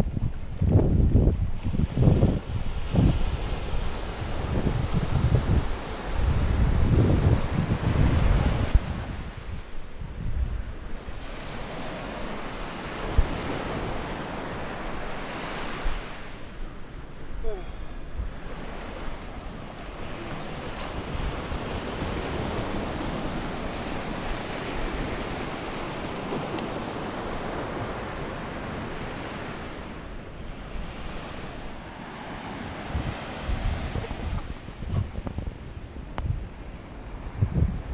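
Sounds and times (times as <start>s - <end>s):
surf breaking on beach: 0.0s - 37.9s
wind buffeting microphone: 0.0s - 37.9s.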